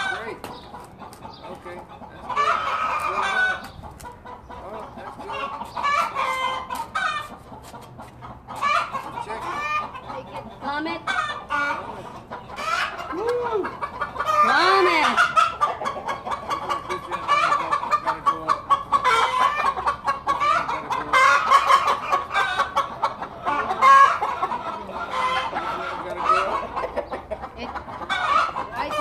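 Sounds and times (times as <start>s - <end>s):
chickens clucking: 0.0s - 29.0s
drawn-out chicken calls: 0.0s - 29.0s.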